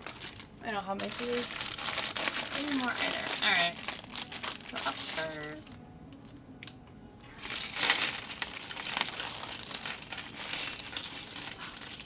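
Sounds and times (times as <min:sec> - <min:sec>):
plastic bags crinkling: 0:00.0 - 0:05.8, 0:07.3 - 0:12.0.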